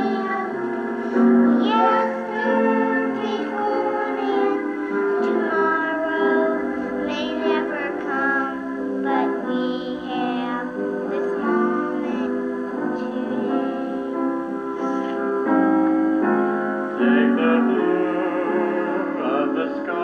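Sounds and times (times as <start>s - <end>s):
sustained instrumental chords: 0.0s - 9.2s, 10.6s - 20.0s
person singing long notes: 0.0s - 14.2s, 17.0s - 20.0s.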